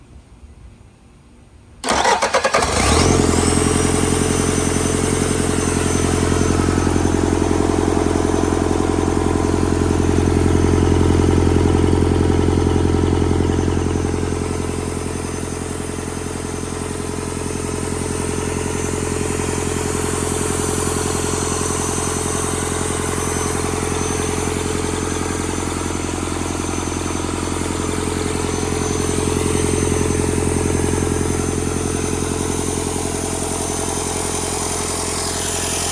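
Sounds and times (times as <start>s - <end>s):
diesel engine starting and running: 1.8s - 35.9s
brief high whine: 3.0s - 35.9s.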